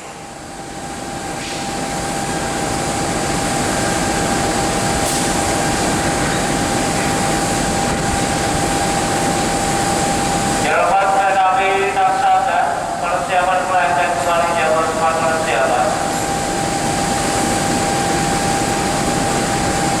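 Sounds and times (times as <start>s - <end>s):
diesel locomotive running: 0.0s - 20.0s
steady whine: 0.0s - 20.0s.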